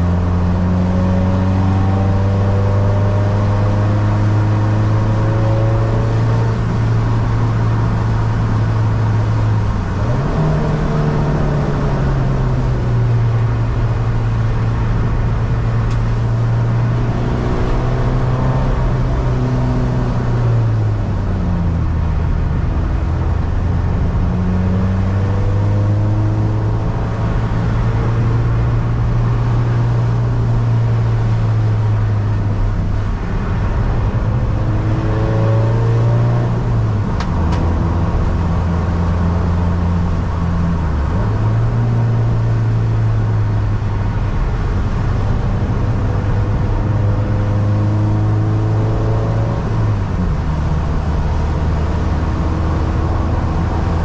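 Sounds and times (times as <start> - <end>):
diesel car engine revving: 0.0 - 54.0
road and tyre noise: 0.0 - 54.0.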